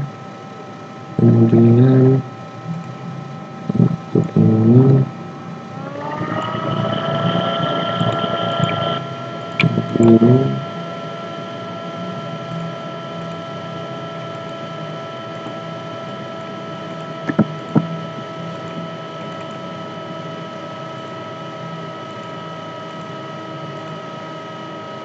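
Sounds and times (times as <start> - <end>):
electrical hum and hiss: 0.0 - 25.0.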